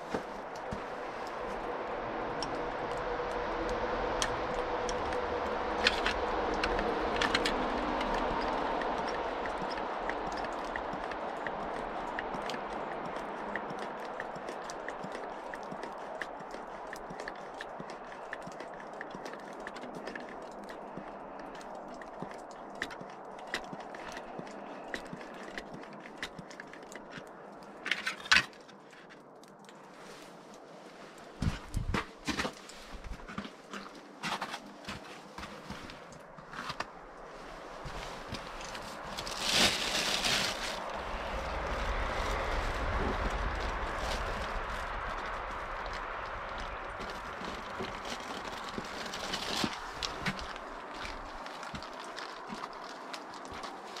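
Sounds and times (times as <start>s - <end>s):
clicks and crunches in snow: 0.0s - 54.0s.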